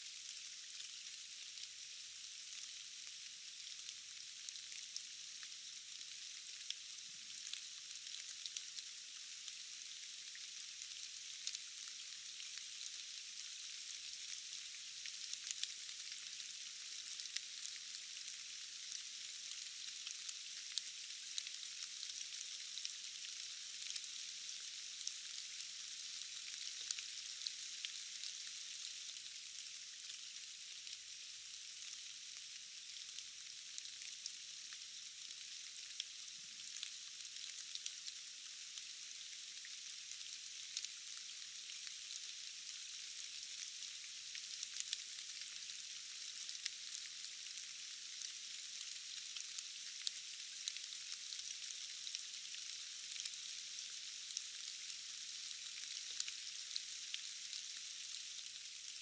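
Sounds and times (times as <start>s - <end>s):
rain hissing in forest: 0.0s - 59.0s.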